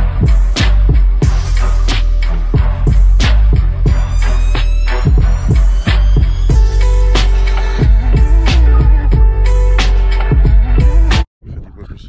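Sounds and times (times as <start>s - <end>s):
deep sustained bass: 0.0s - 11.2s
steady drum beat: 0.0s - 11.2s.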